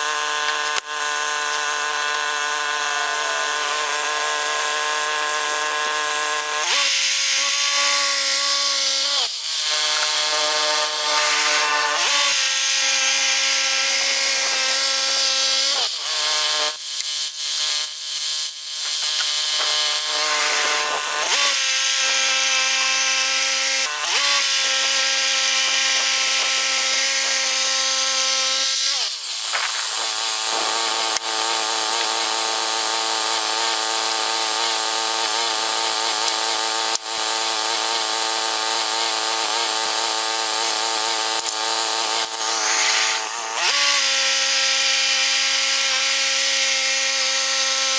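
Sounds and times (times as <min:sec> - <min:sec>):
band blade cutting log: 0:00.0 - 0:17.9, 0:18.8 - 0:47.9.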